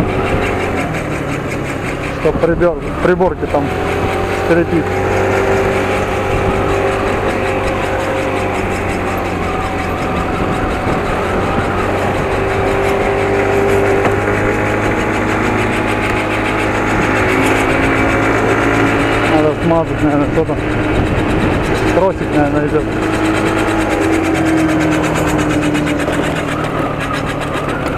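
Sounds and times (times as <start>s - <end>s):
mini motorcycle engine running: 0.0s - 27.9s.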